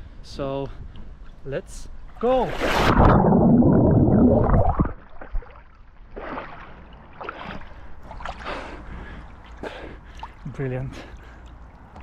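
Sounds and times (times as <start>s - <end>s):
water splashing and sloshing: 2.0s - 12.0s.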